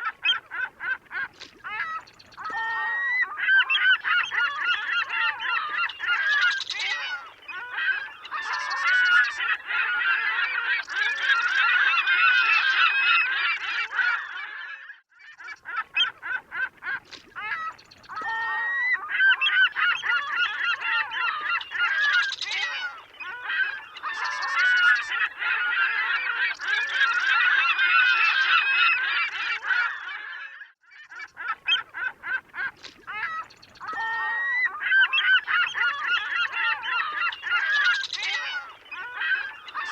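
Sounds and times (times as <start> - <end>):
gulls calling: 0.0 - 14.2, 15.6 - 30.2, 31.1 - 39.9.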